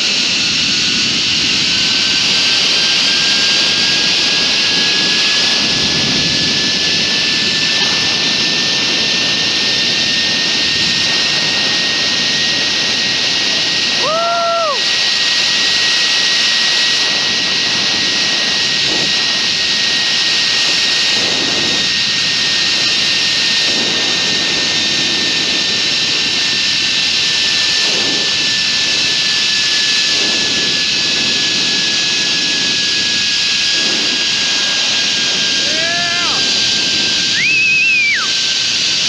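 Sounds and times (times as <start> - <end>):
wind rushing on microphone: 0.0 - 39.0
zip line trolley whine: 0.0 - 39.0.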